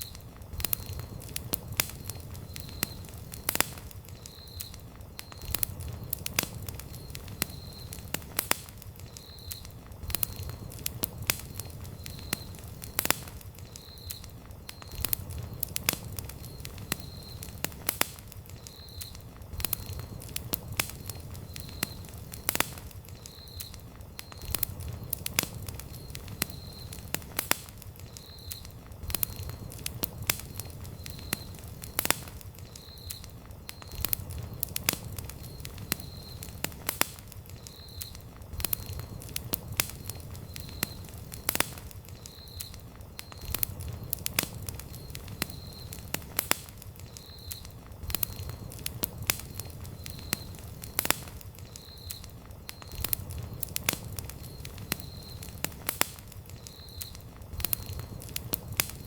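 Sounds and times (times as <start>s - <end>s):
campfire crackling: 0.0s - 59.0s
low rumble of flames: 0.0s - 59.0s.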